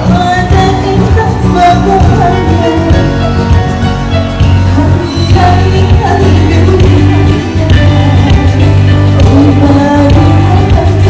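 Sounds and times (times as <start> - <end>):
person singing: 0.0 - 3.7, 4.5 - 11.0
low bass notes: 0.0 - 11.0.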